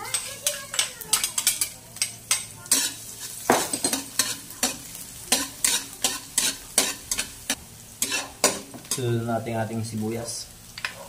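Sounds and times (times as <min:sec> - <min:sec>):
metal spatula scraping a wok: 0:00.0 - 0:09.1
garlic sizzling in oil: 0:00.0 - 0:11.0.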